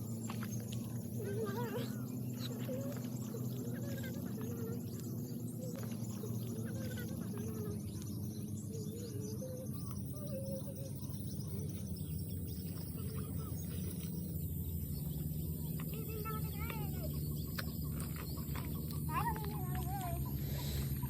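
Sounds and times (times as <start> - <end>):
birds chirping: 0.0 - 21.0
steady low drone: 0.0 - 21.0.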